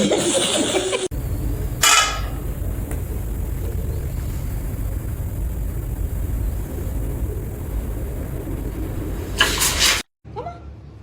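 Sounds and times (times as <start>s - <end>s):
low rumbling noise: 1.0s - 10.1s.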